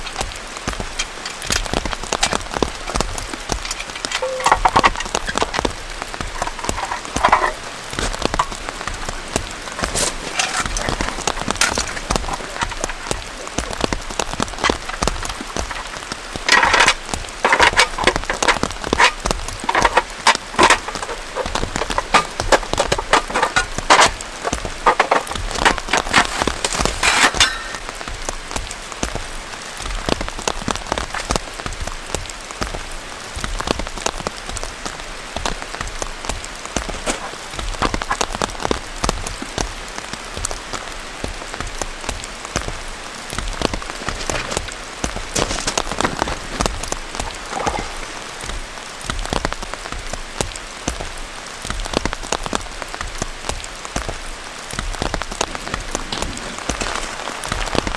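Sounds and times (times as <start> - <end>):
crackling clicks: 0.0 - 57.9
heavy rain falling: 0.0 - 57.9.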